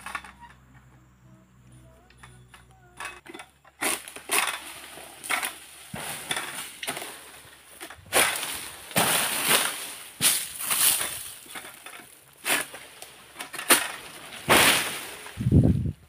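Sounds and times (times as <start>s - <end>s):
sickle cutting palm fronds: 2.3s - 15.9s.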